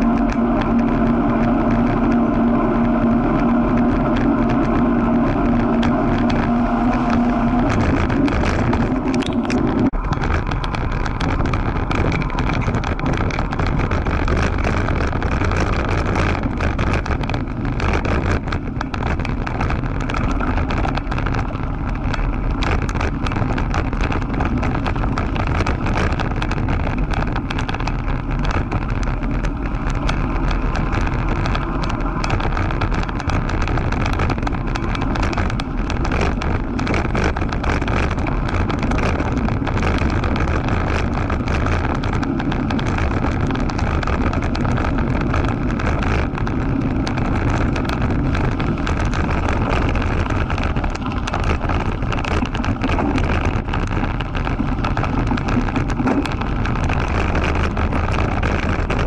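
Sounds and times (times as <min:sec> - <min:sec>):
bike rattling: 0:00.0 - 0:59.0
bike tyres crunching on gravel: 0:00.0 - 0:59.0
wind rush on microphone: 0:00.0 - 0:59.0.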